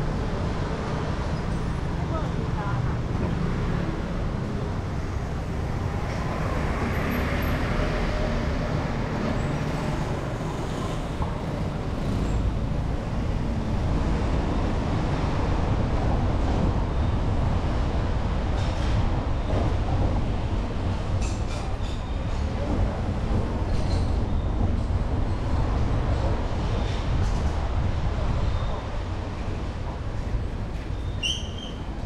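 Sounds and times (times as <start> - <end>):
rumble of passing traffic: 0.0 - 32.0.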